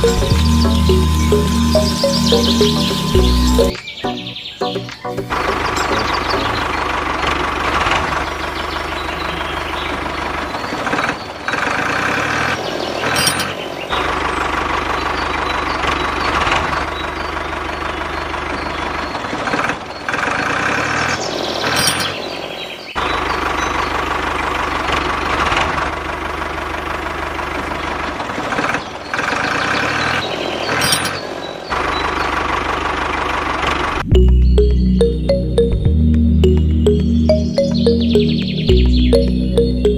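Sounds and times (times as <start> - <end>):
engine running: 0.0 - 3.9, 4.8 - 21.0, 23.0 - 30.0, 31.7 - 39.9.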